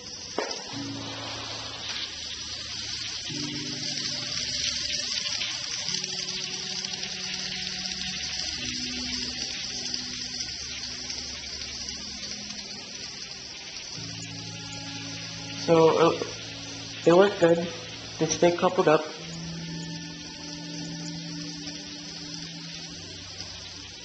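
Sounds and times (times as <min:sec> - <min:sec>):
model train hissing whir: 0:00.0 - 0:24.0.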